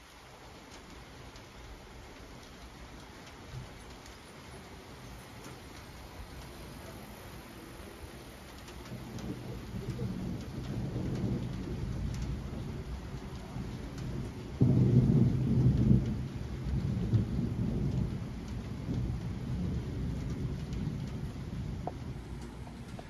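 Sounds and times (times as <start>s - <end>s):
steady rain: 0.0s - 23.0s
thunder rumbling: 0.8s - 23.0s.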